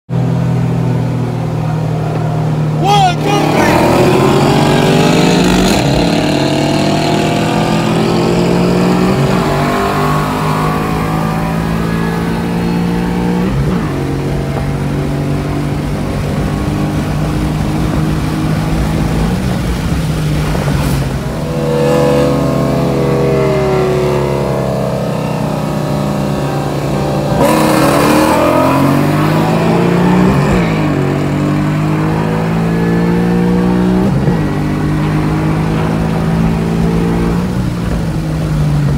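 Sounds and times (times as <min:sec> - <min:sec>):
car engine accelerating hard: 0:00.1 - 0:38.9.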